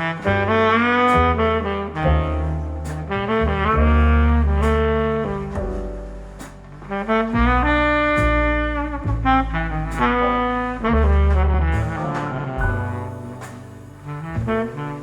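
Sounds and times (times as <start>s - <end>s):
saxophone lead: 0.0s - 6.0s, 6.9s - 15.0s
walking double bass: 0.0s - 15.0s.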